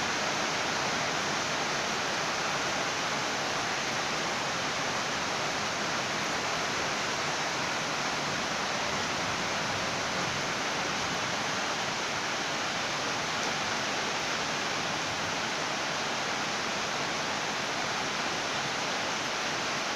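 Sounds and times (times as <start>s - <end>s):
rain falling: 0.0s - 19.9s.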